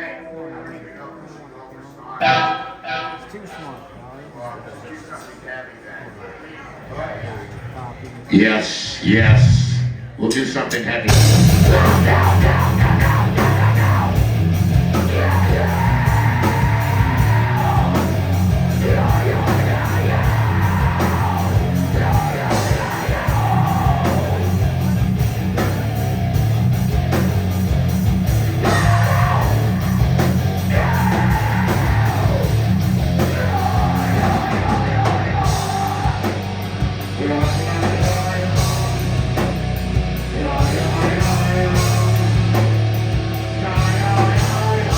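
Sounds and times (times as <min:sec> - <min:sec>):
heavy rock band playing: 0:02.2 - 0:03.5, 0:08.6 - 0:10.1, 0:11.0 - 0:44.9
singer yelling and singing: 0:02.2 - 0:03.8, 0:08.3 - 0:44.9.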